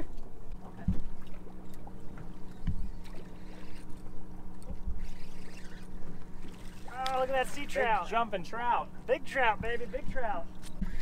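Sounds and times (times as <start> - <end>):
boat mechanical hum: 0.0 - 11.0.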